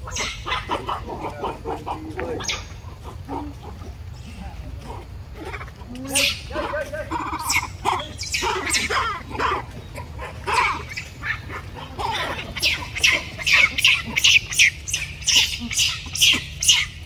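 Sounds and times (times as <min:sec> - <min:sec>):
monkeys squealing: 0:00.0 - 0:17.0.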